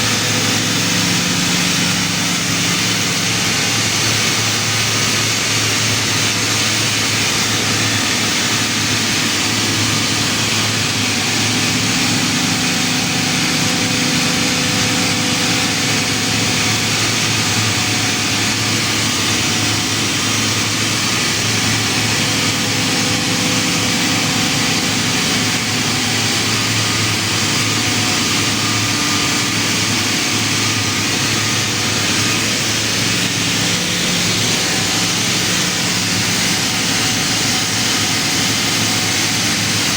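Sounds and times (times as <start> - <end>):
air compressor humming and hissing: 0.0 - 39.9.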